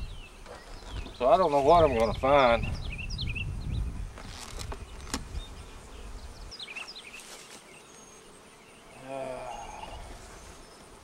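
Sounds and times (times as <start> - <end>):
bird chirping: 0.0 - 10.9
bees buzzing: 0.0 - 11.0.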